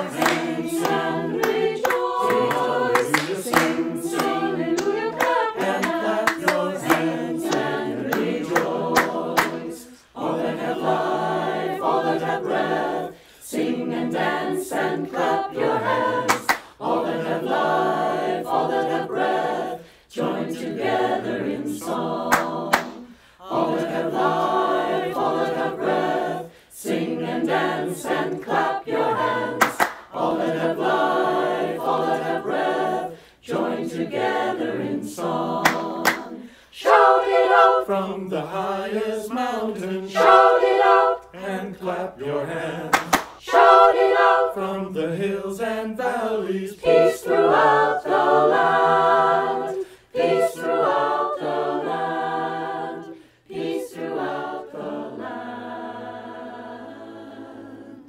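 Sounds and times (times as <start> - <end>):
mixed choir singing in harmony: 0.0 - 58.0.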